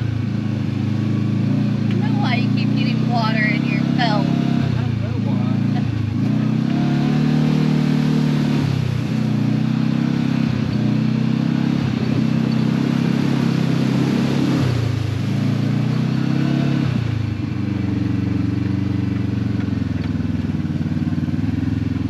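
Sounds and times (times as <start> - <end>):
utility vehicle engine running: 0.0 - 22.0.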